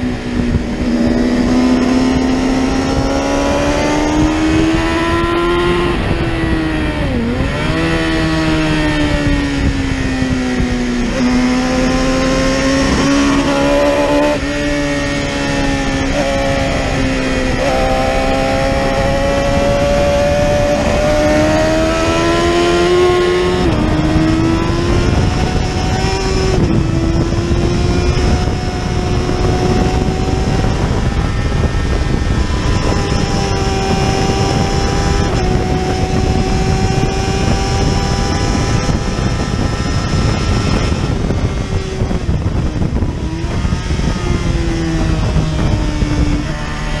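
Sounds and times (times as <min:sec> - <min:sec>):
racing motorcycle engine revving: 0:00.0 - 0:47.0
wind and road noise: 0:00.0 - 0:47.0.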